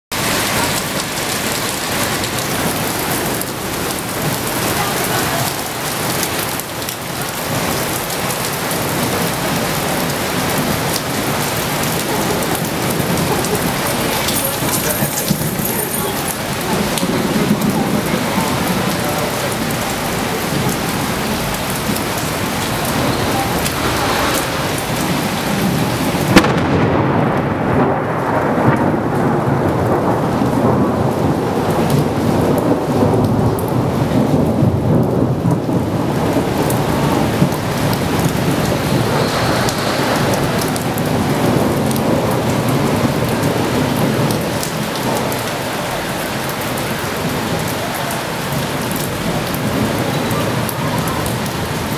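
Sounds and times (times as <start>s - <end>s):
heavy rain: 0.1s - 51.9s
thunder rumbling and cracking: 0.1s - 51.9s.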